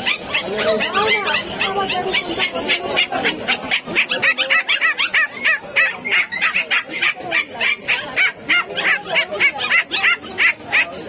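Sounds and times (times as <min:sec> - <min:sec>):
puppies yipping and whimpering: 0:00.0 - 0:11.0.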